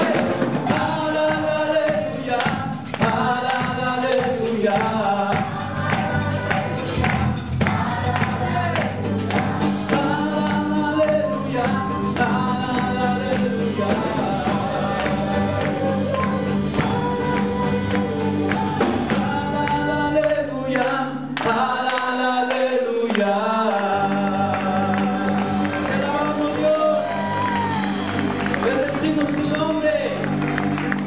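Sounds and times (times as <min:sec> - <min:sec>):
drum kit steady beat: 0:00.0 - 0:20.5, 0:24.0 - 0:31.0
man singing: 0:00.0 - 0:27.7, 0:28.5 - 0:30.3.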